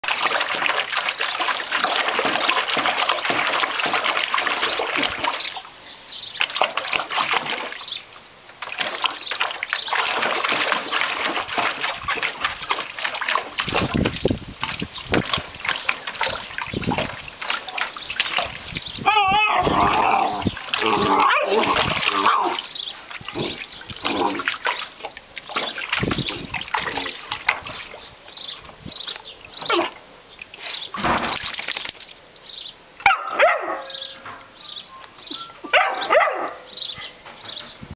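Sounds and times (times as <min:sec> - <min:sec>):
puppy splashing water: 0:00.0 - 0:32.3.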